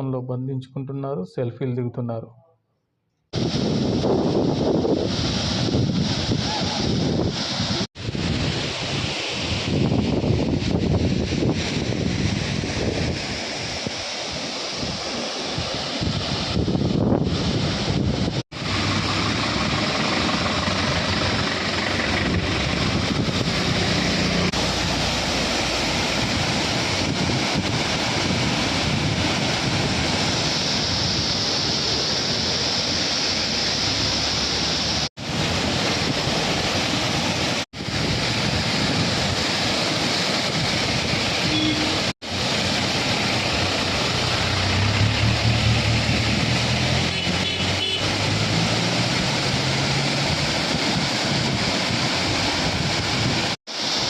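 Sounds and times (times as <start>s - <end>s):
waterfall rushing: 3.4s - 54.0s.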